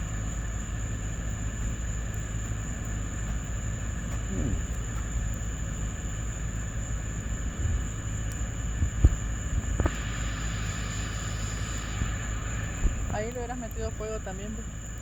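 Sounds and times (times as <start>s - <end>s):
high thin insect trill: 0.0s - 15.0s
steady low rumble: 0.0s - 15.0s.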